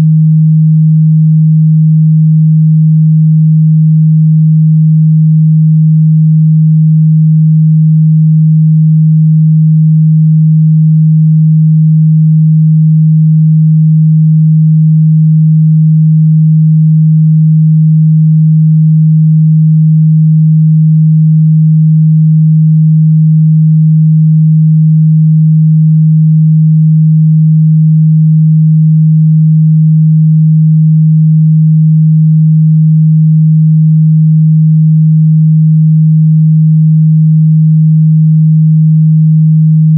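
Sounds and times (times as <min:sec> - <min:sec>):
low sine-wave test tone: 0:00.0 - 0:39.9.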